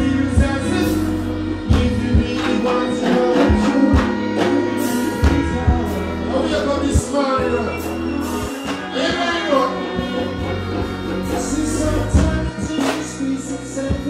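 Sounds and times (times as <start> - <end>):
live reggae band playing: 0.0 - 14.0
man singing: 0.0 - 14.0.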